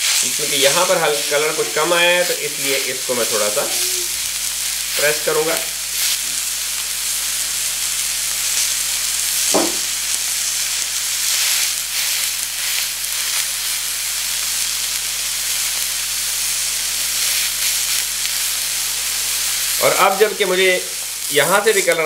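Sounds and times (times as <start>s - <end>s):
steaks sizzling in a pan: 0.0s - 22.0s.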